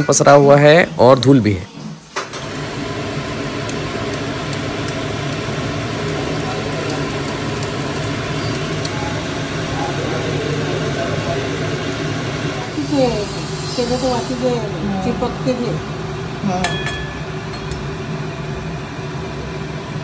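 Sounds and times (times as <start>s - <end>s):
motor or fan humming: 2.3s - 20.0s.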